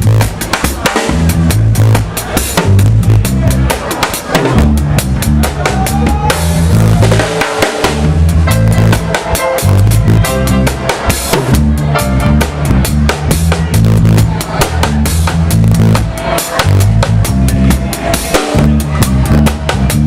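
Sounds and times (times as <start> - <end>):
band music: 0.0 - 20.0
drum kit beat: 0.0 - 20.0.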